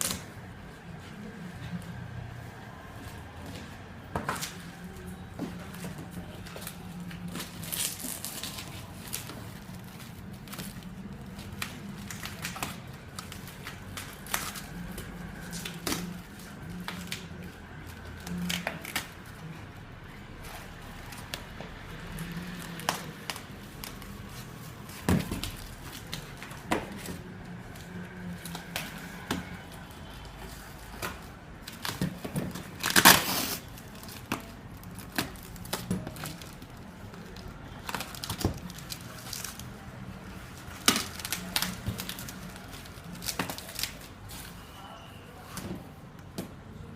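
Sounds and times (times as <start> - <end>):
plastic and cardboard crinkling: 2.7 - 46.9.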